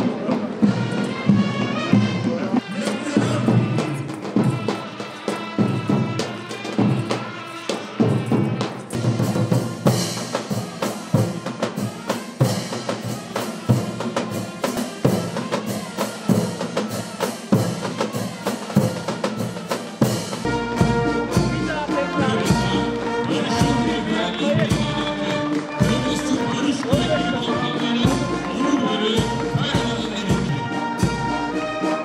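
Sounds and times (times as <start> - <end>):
drums and cymbals march beat: 0.0 - 32.0
military brass band playing: 0.0 - 32.0
wind instrument melody: 0.0 - 32.0.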